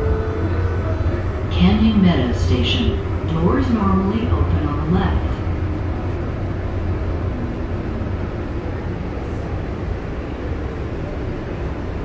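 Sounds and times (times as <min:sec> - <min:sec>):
light rail car rumble: 0:00.0 - 0:12.0.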